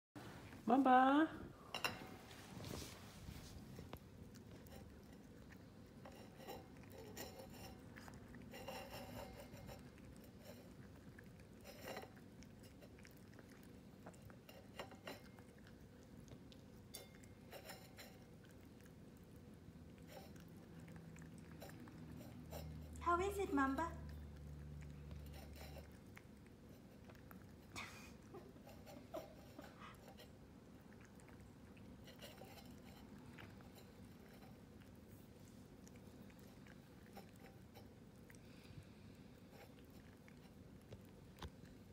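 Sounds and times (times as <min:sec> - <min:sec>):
puppy chewing: 0:02.1 - 0:41.9.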